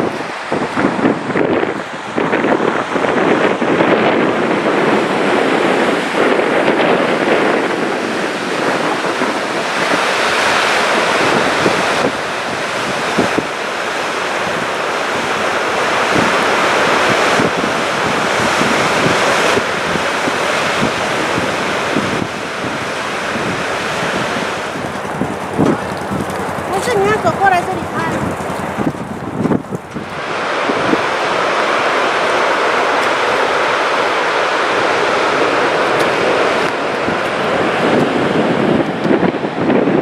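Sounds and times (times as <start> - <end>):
large waterfall rushing: 0.0 - 40.0
wind buffeting microphone: 0.0 - 40.0.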